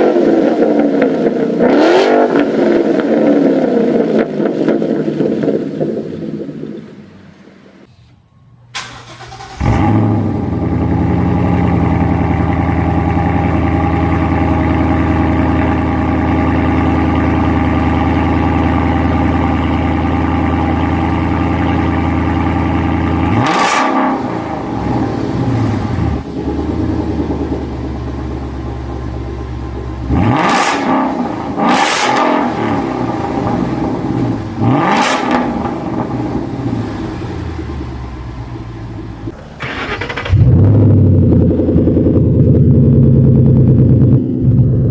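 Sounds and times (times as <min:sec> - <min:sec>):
car engine revving: 0:00.0 - 0:07.4, 0:08.7 - 0:44.9
car engine idling: 0:02.9 - 0:44.9
car engine cranking and starting: 0:07.9 - 0:44.9.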